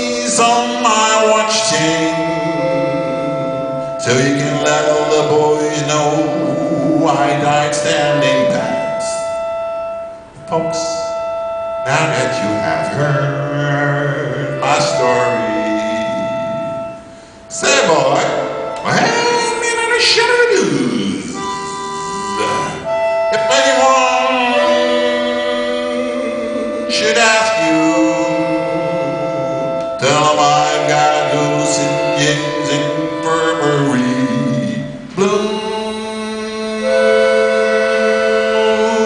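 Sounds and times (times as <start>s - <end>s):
concertina playing chords: 0.0s - 39.0s.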